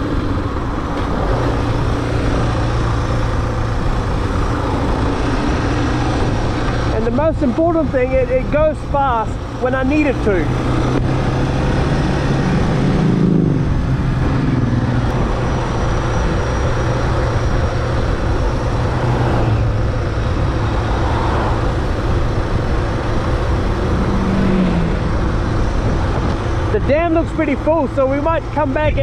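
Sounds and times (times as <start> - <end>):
wind noise on microphone: 0.0 - 6.9, 10.5 - 27.4
motorcycle engine cruising: 0.0 - 29.0.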